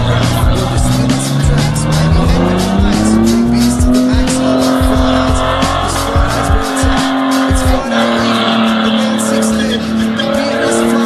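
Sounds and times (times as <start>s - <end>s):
car engine revving high: 0.0s - 11.0s
music: 0.0s - 11.0s
tyres squealing: 0.0s - 11.0s.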